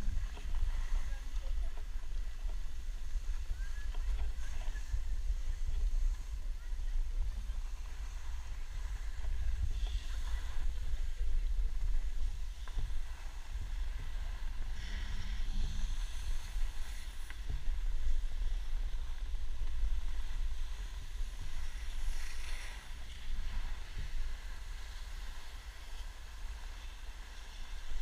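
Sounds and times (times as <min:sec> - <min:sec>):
skis hissing over snow: 0:00.0 - 0:28.0
wind buffeting microphone: 0:00.0 - 0:28.0.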